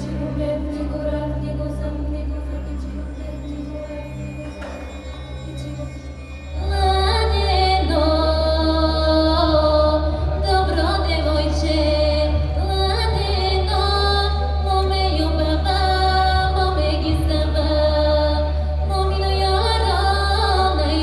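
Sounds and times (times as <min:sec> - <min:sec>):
low backing drone: 0:00.0 - 0:21.0.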